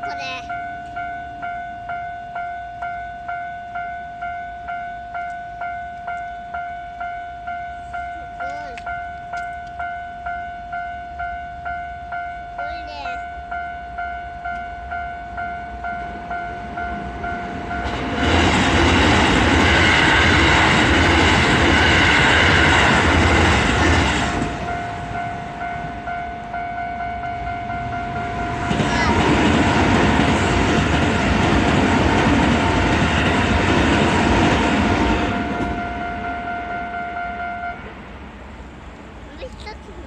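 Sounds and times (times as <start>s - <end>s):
train rumble and wheel rattle: 0.0s - 40.0s.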